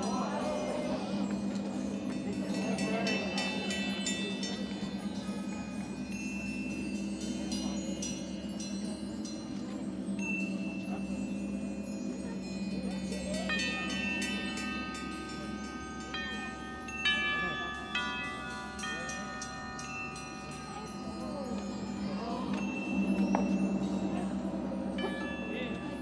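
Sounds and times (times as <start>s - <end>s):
ringing mallet notes: 0.0s - 26.0s
shimmering wind chimes: 0.0s - 26.0s.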